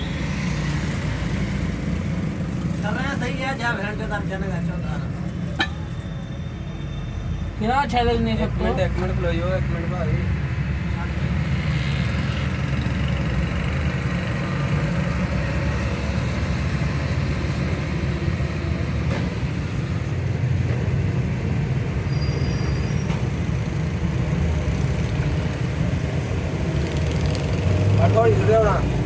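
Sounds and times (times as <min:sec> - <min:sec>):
truck engine rumbling: 0:00.0 - 0:29.0.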